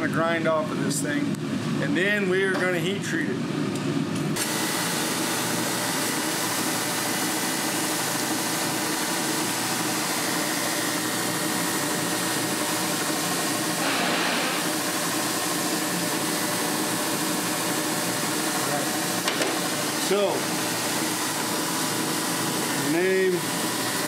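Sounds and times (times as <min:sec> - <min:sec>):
shop machinery drone: 0:00.0 - 0:24.0.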